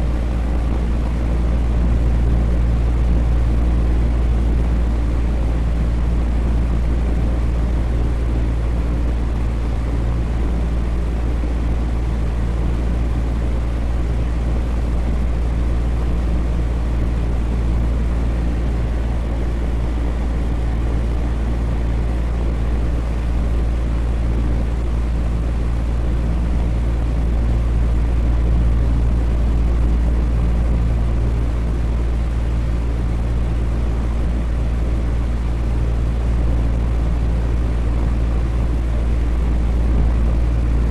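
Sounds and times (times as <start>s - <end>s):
electric fan humming: 0.0s - 40.9s.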